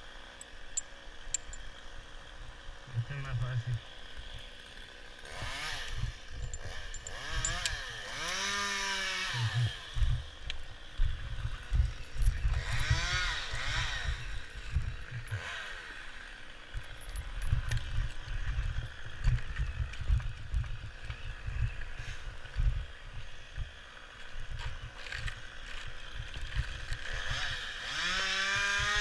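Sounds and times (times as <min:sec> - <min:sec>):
chainsaw revving: 0:00.0 - 0:29.0.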